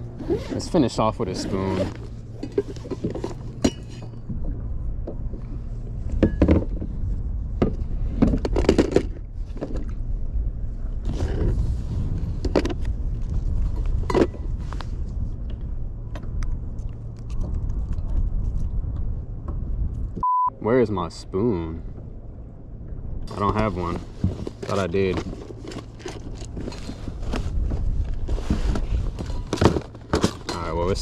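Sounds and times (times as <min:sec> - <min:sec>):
low wind rumble on microphone: 0:00.0 - 0:20.2, 0:21.0 - 0:31.0.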